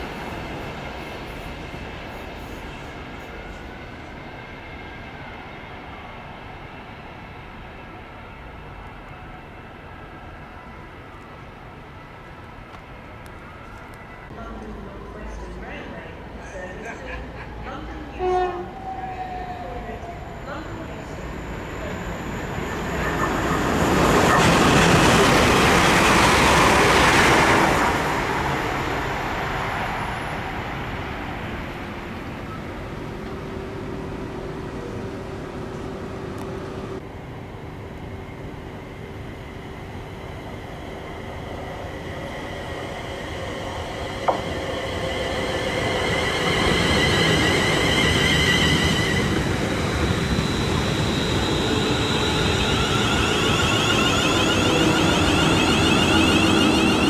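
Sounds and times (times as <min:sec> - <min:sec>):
electric train passing: 0:00.0 - 0:57.0
train approaching with whining tones: 0:00.0 - 0:57.0.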